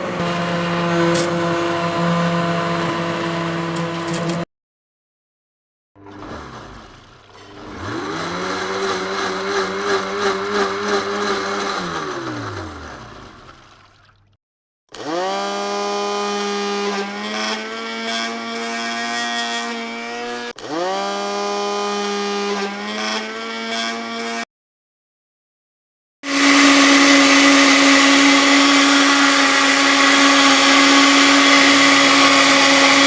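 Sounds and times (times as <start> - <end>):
blender motor whine: 0.0 - 4.5, 6.0 - 14.2, 14.9 - 24.5, 26.2 - 33.0.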